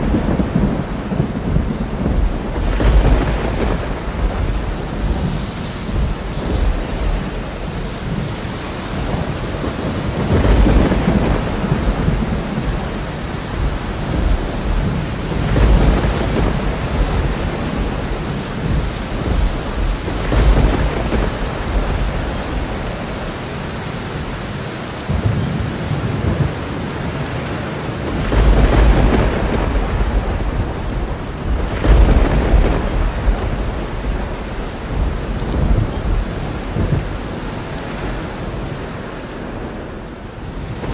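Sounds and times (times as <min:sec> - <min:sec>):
rolling thunder: 0:00.0 - 0:40.9
steady rain: 0:00.0 - 0:40.9.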